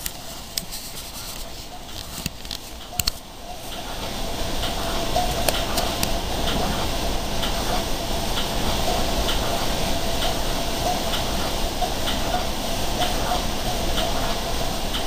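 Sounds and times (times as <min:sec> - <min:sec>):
light clicks of rails: 0:00.0 - 0:15.0
train rumbling on rails: 0:00.0 - 0:15.0.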